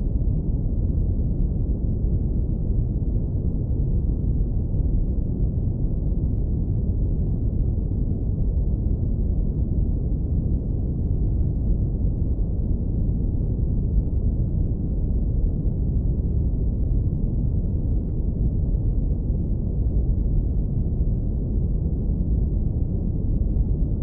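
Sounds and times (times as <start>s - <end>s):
brown noise rumble: 0.0s - 24.0s.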